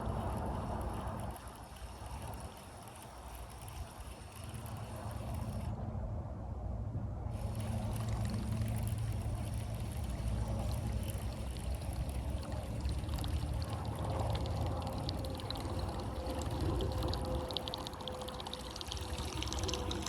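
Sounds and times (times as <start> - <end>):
water trickling against a kayak: 0.0 - 5.7, 7.3 - 20.0
steady low rumble: 0.0 - 20.0.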